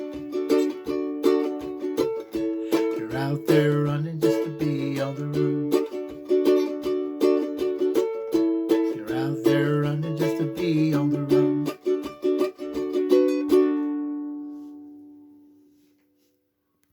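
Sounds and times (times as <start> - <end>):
ukulele strumming: 0.0 - 15.9.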